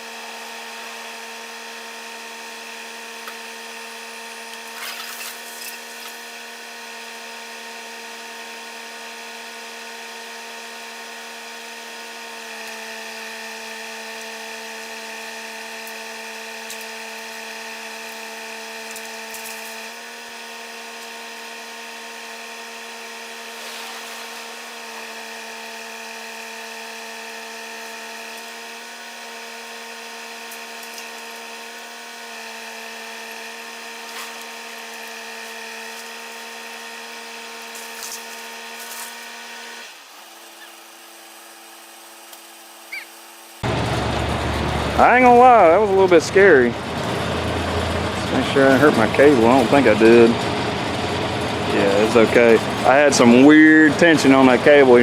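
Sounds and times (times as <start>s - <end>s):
chainsaw cutting at high revs: 0.0s - 55.0s.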